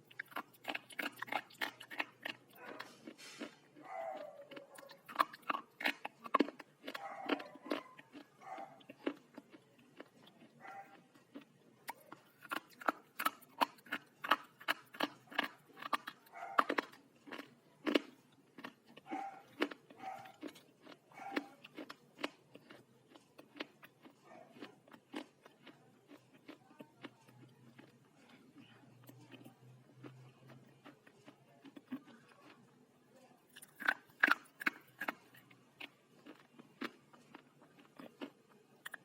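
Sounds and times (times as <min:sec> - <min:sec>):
slate crunching when chewed: 0:00.0 - 0:32.8, 0:33.5 - 0:39.0.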